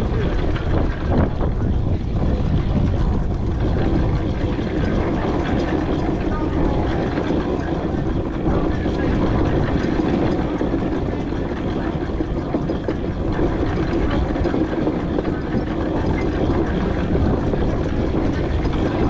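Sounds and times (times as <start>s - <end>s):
traction engine mechanical rumble: 0.0s - 19.0s.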